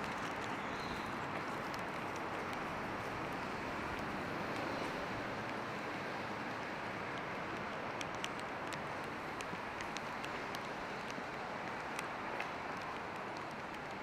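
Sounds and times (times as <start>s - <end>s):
rain on a street: 0.0s - 14.0s.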